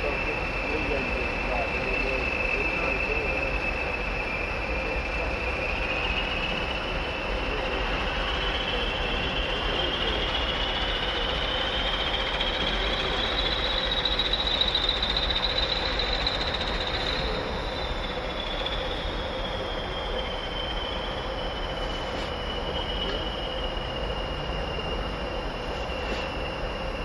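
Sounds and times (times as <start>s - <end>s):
locomotive wheels squealing: 0.0s - 27.0s
steady rail noise: 0.0s - 27.0s.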